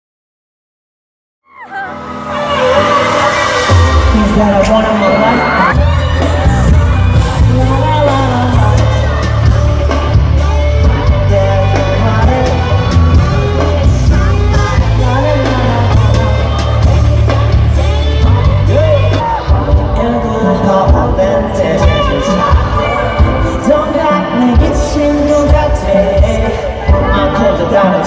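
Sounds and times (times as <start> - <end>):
live pop music over loudspeakers: 1.5 - 28.0
person singing: 1.5 - 28.0
heavy bass line: 1.8 - 27.6.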